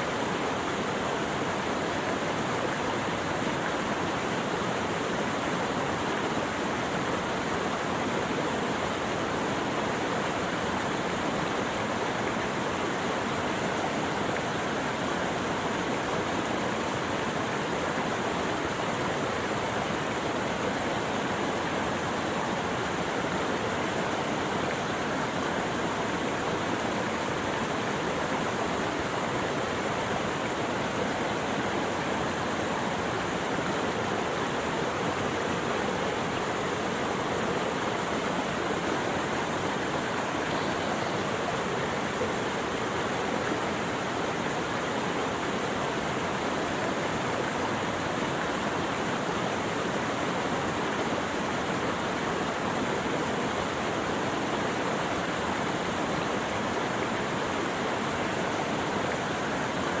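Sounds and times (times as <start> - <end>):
flowing water rushing: 0.0 - 60.0.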